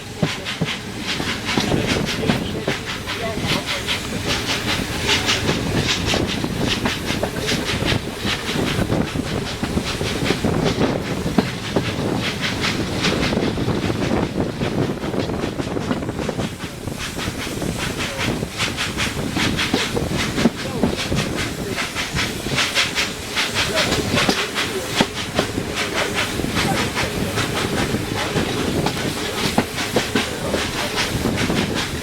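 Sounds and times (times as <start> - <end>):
steam hissing: 0.0 - 32.0
steam locomotive exhaust chuffs: 0.0 - 32.0
wheels clattering on rails: 0.0 - 32.0.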